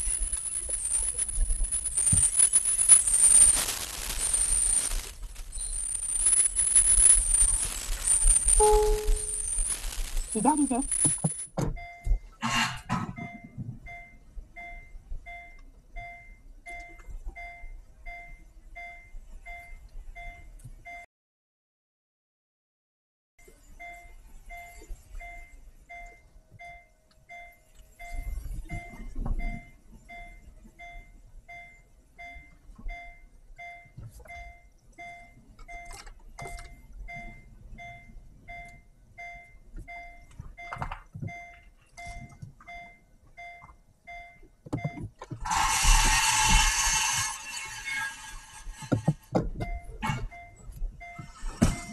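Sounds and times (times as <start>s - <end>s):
car reverse warning beeper: 0.0s - 21.0s, 23.4s - 45.7s, 49.6s - 51.9s.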